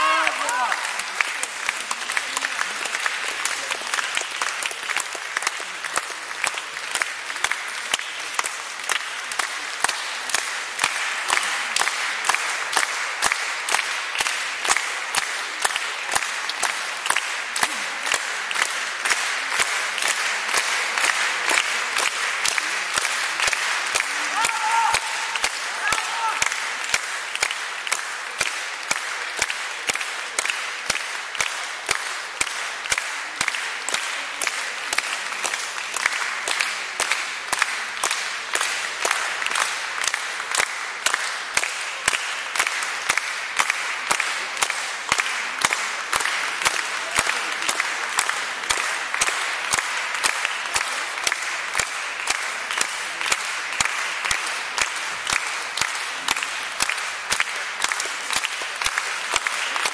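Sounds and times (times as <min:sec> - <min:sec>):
audience applauding: 0:00.0 - 0:59.9
sharp claps: 0:00.0 - 0:59.9.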